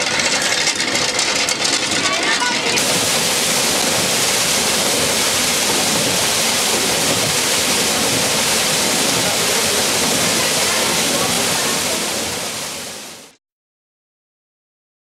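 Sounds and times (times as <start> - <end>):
water gushing onto paddle wheel: 0.0 - 13.4.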